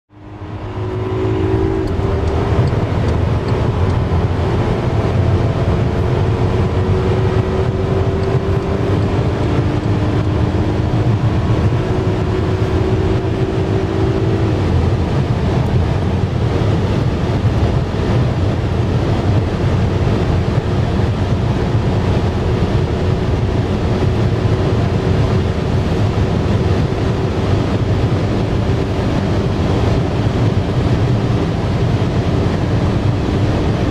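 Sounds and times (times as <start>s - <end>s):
car engine accelerating: 0.1s - 33.9s
road and wind noise: 0.1s - 33.9s.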